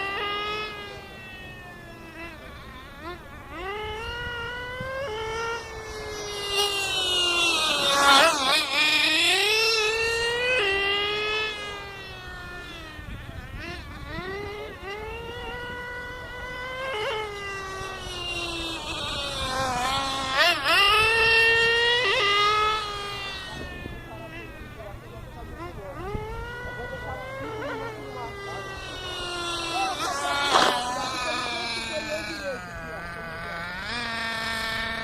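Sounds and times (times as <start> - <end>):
model car engines whining: 0.0 - 35.0.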